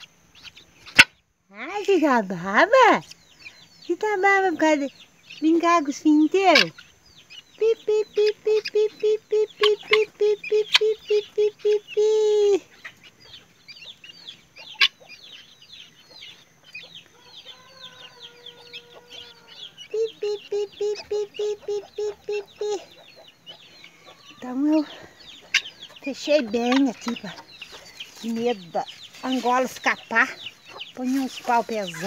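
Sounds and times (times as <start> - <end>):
guineafowl rattling alarm call: 0.0 - 1.3, 2.7 - 12.0, 12.6 - 32.0
keets peeping: 0.0 - 32.0.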